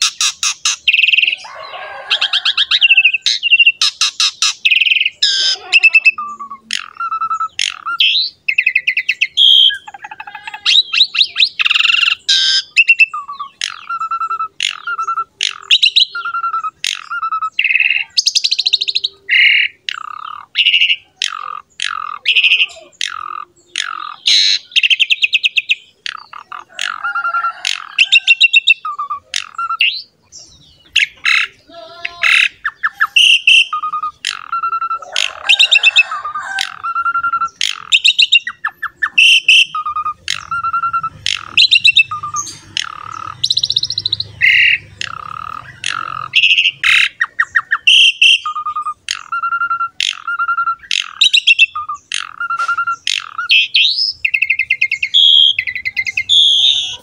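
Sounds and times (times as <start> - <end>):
starling singing trills and whistles: 0.0 - 57.0.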